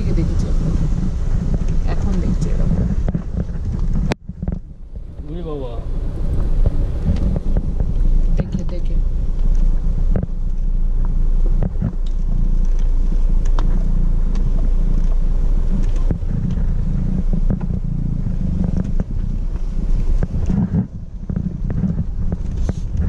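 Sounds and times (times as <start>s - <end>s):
vehicle engine and road rumble: 0.0s - 23.0s
vehicle knocking and rattling: 0.0s - 23.0s.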